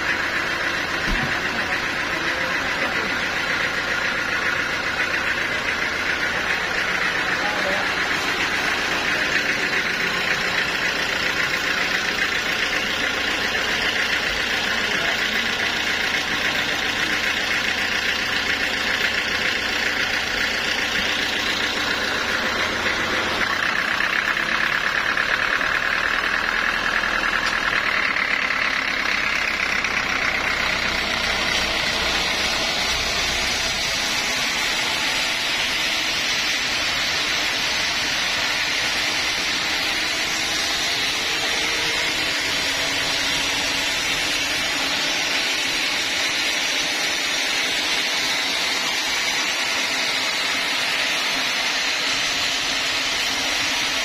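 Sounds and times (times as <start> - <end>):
stationary engine idling: 0.0 - 54.0.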